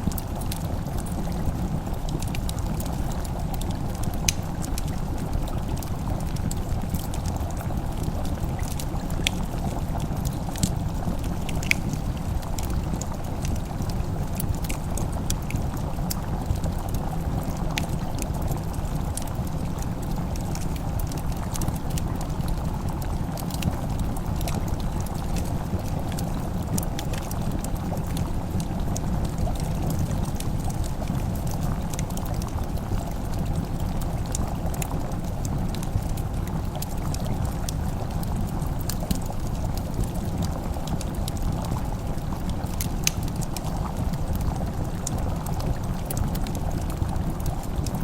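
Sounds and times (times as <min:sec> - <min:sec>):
fire pops: 0:00.0 - 0:07.7, 0:08.3 - 0:19.3, 0:20.1 - 0:47.8
low fire rumble: 0:00.0 - 0:48.0
simmering pot bubbling: 0:00.0 - 0:48.0
wood fire crackling: 0:00.0 - 0:48.0.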